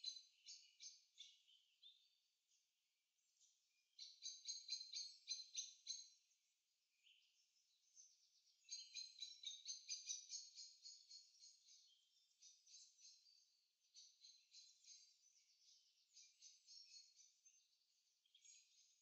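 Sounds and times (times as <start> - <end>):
small bird chirping: 0.0 - 2.6, 3.2 - 6.4, 7.0 - 19.0.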